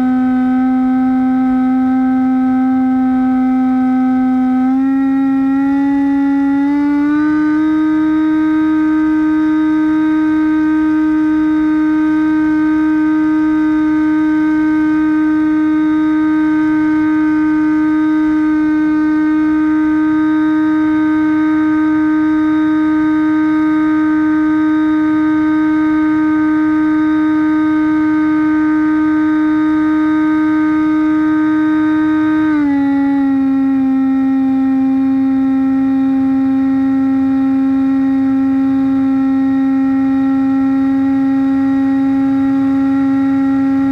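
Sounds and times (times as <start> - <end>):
electric motor propeller whine: 0.0 - 43.9.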